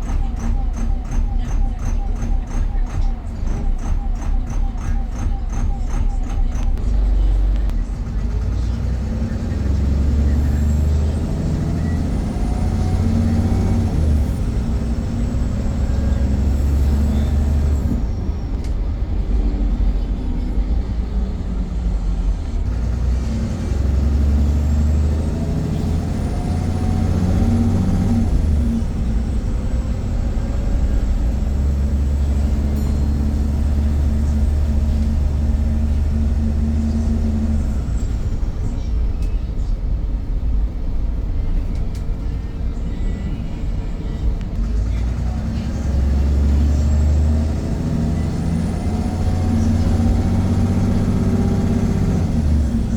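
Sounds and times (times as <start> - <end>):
bus engine rumble: 0.0 - 52.9
high drivetrain whine: 0.0 - 52.9.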